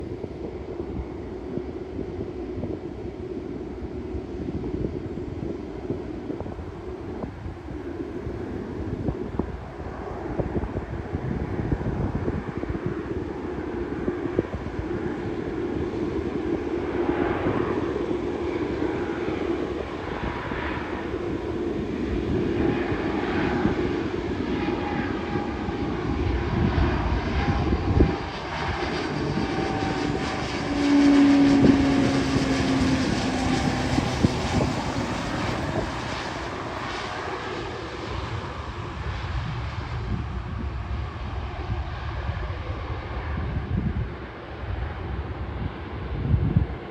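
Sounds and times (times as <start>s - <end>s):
turboprop propeller drone: 0.0s - 46.9s.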